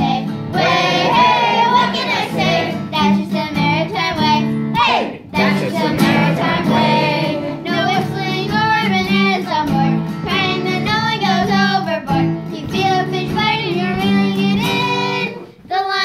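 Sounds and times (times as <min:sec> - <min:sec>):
children singing: 0:00.0 - 0:03.2, 0:04.8 - 0:11.9, 0:12.6 - 0:16.0
acoustic guitar: 0:00.0 - 0:16.0.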